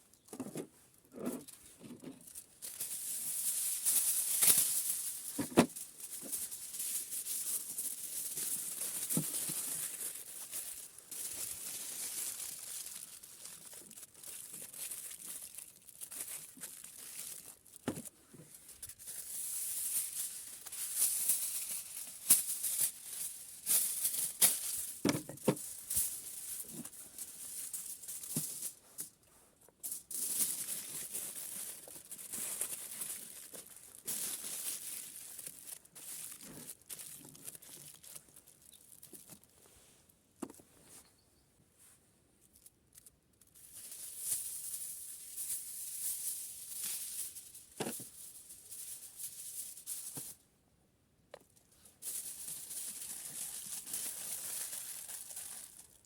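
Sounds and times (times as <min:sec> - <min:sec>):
rustling and crinkling: 0:00.0 - 0:50.4, 0:51.3 - 0:56.0.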